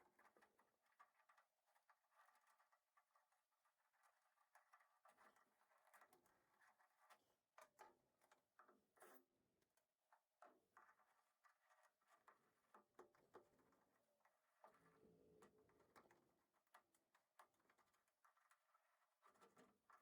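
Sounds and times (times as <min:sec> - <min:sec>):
faint small clicks and ticks: 0:00.0 - 0:20.0.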